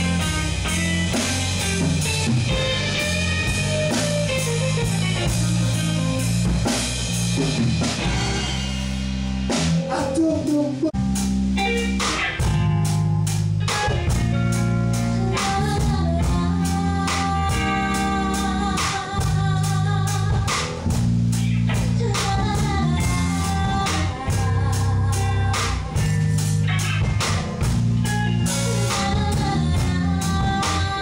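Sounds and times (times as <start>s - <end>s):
bass guitar: 0.0s - 31.0s
drum kit: 0.0s - 31.0s
electric guitar: 0.0s - 31.0s.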